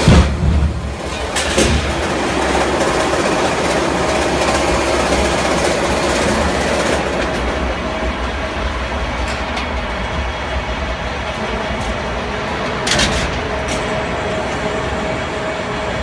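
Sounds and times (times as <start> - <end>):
lathe running: 0.9 - 16.0.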